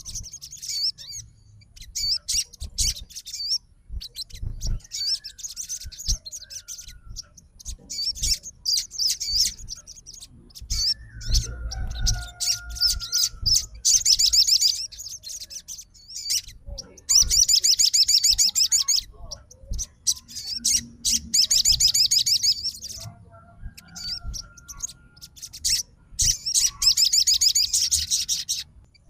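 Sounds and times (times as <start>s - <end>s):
songbird chirping and trilling: 0.0s - 29.0s.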